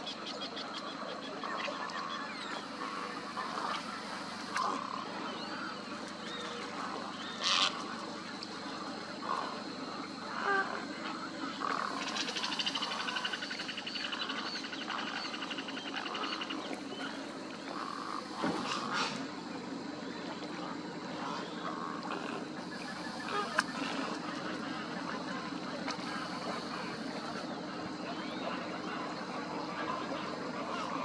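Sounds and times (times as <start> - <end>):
harsh bird calls: 0.0 - 19.3, 21.2 - 31.0
low steady hum: 0.0 - 31.0
wild birds calling: 0.0 - 31.0.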